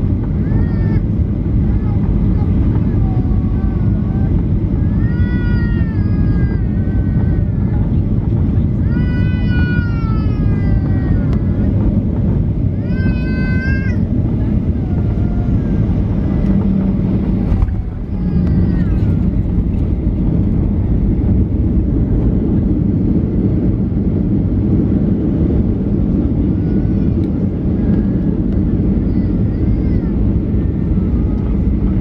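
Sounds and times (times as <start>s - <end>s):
jet engines and wheels rumbling: 0.0s - 32.0s.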